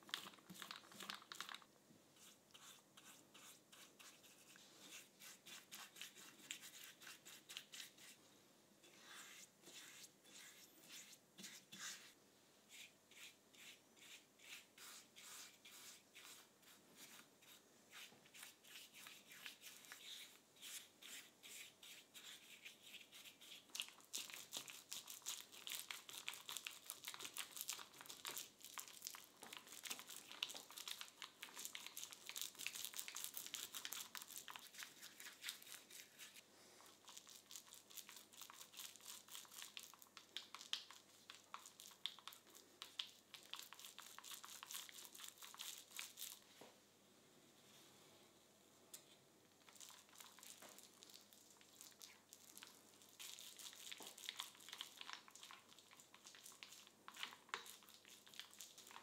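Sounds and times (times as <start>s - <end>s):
paint roller sticky crackle: 0.0s - 8.2s, 8.8s - 46.4s, 49.6s - 59.0s.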